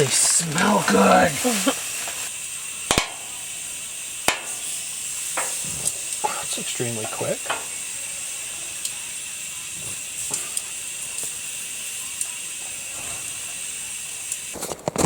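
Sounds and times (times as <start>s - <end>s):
food sizzling in a pan: 0.0s - 15.0s
small pops of frying: 0.0s - 15.0s.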